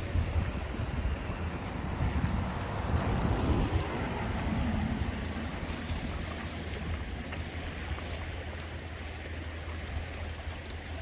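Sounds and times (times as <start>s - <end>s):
sea water lapping: 0.0s - 11.0s.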